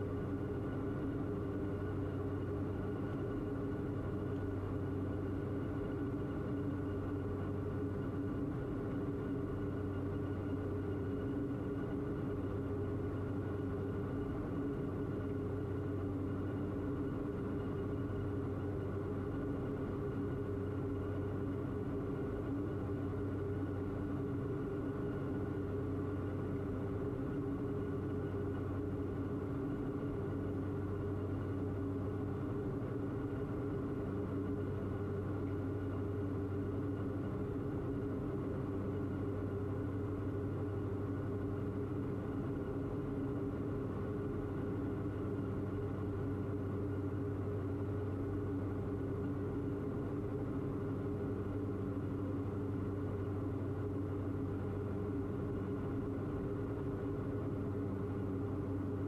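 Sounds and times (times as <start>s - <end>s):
aircraft engines droning in cockpit: 0.0s - 59.0s.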